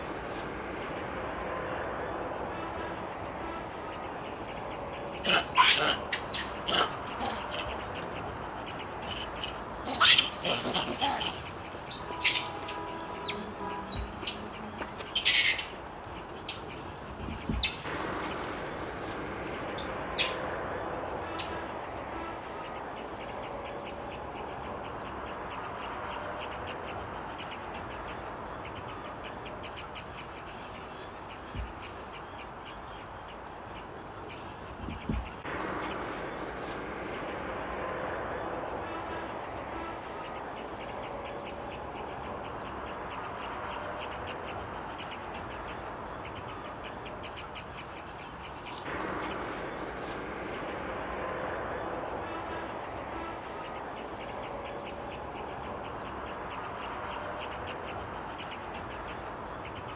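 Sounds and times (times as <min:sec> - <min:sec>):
birds chirping and calling: 0:00.0 - 0:59.9.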